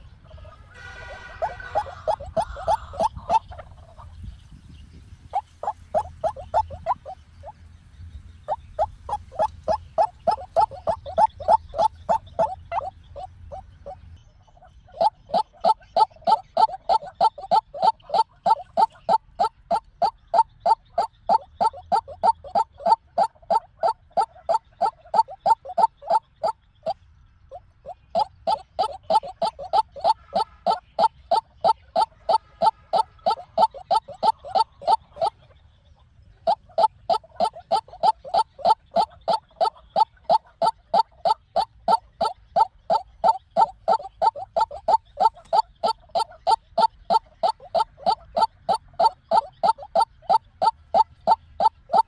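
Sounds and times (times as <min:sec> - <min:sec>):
waterhen calling harsh notes: 0:00.7 - 0:03.8, 0:05.3 - 0:07.2, 0:08.5 - 0:14.0, 0:14.9 - 0:26.6, 0:27.5 - 0:35.4, 0:36.4 - 0:52.0.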